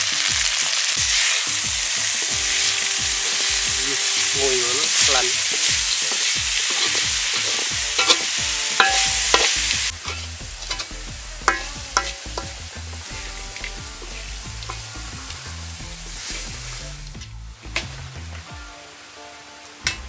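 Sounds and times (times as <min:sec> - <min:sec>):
food sizzling in a wok: 0:00.0 - 0:20.0
metal spatula scraping wok: 0:01.0 - 0:18.4.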